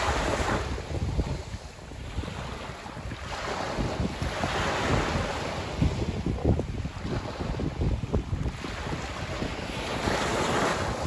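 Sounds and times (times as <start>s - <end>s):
waves on pebble beach: 0.0s - 11.0s
wind noise on microphone: 0.0s - 11.0s.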